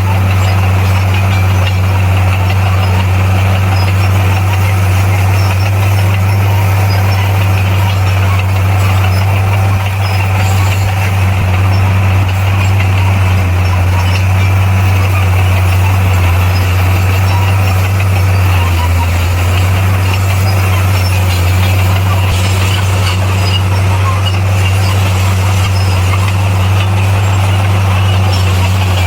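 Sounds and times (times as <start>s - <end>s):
bulldozer diesel engine droning: 0.0s - 29.0s.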